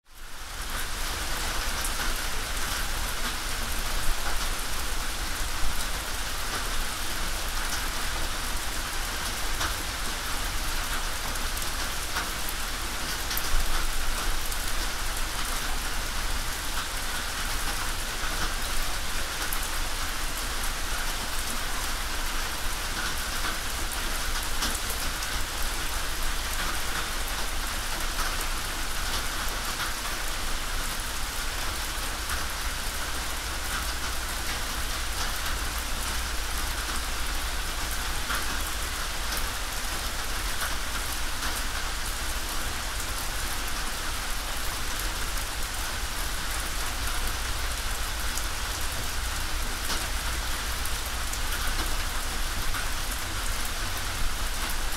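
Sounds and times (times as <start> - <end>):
rain on a tin roof: 0.0 - 54.9.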